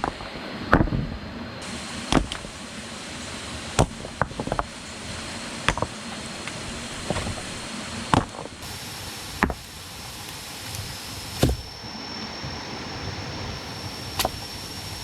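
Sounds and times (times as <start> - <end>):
steady hiss: 1.6 - 15.0.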